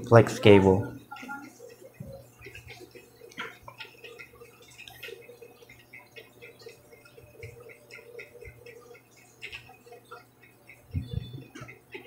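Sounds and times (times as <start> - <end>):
blade ticking and scraping: 1.2 - 12.0.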